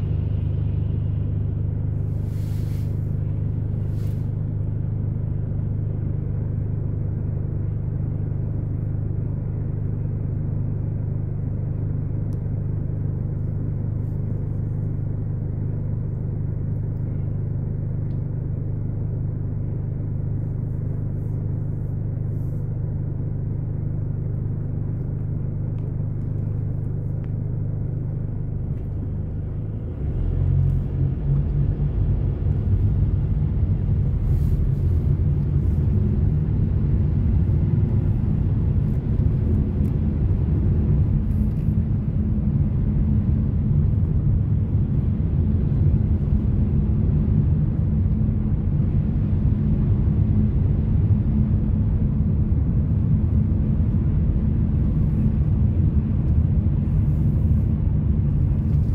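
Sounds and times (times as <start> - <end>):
car engine rumble: 0.0 - 58.9.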